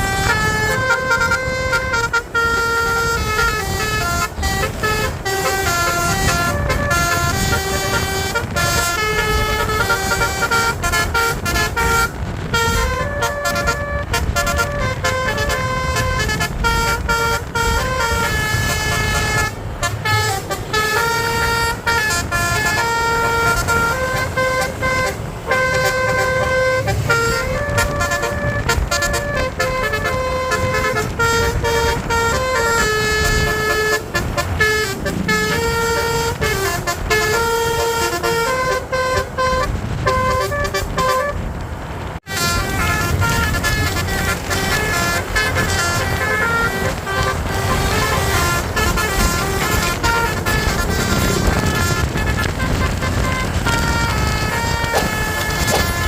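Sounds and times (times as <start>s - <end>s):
multi-tone bus horn tune: 0.0s - 56.0s.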